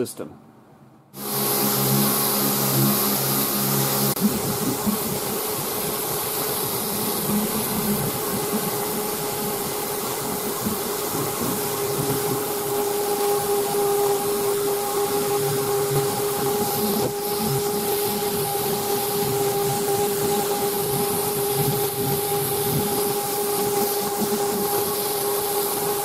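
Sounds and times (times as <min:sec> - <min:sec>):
orbital sander humming: 0:01.2 - 0:26.0.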